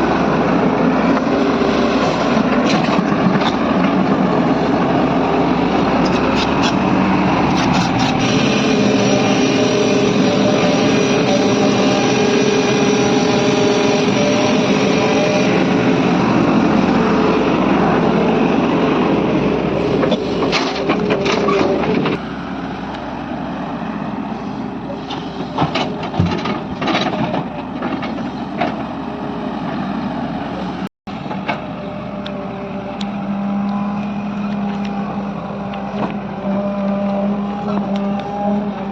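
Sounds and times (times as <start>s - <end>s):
heavy machinery engines running: 0.0s - 38.9s.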